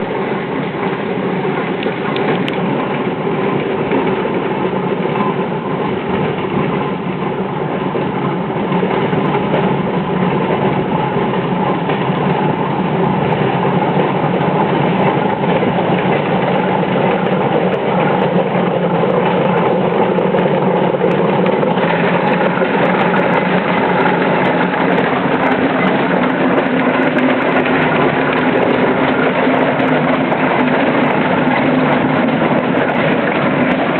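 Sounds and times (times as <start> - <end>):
steam tractor clatter: 0.0 - 33.9.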